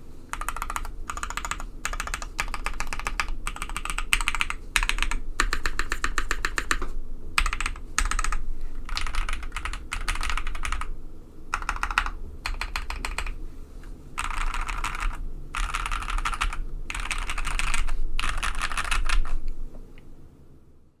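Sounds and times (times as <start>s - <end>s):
fast typing on mechanical keyboard: 0.3s - 13.4s, 14.2s - 19.4s.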